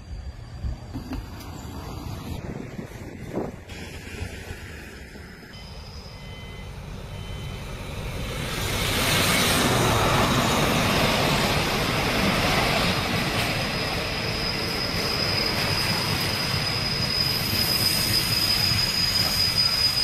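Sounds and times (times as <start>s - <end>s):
train wheels rumbling on rails: 0.0s - 5.5s, 6.6s - 20.0s.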